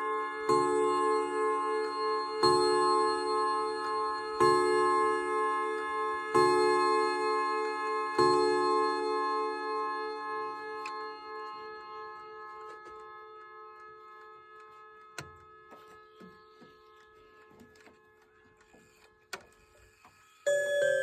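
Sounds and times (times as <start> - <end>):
clock chime rods ringing: 0.0 - 18.0, 20.2 - 21.0.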